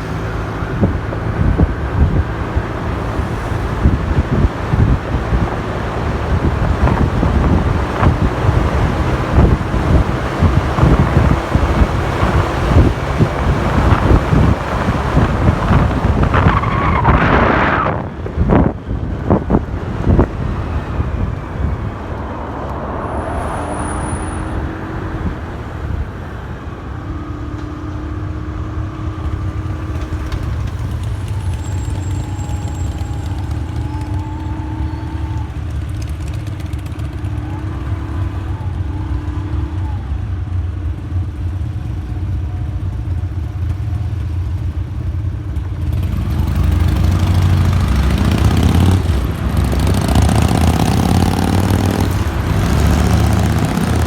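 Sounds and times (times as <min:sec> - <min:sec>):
city traffic: 0:00.0 - 0:54.0
motorcycle engine rumbling: 0:00.0 - 0:54.0.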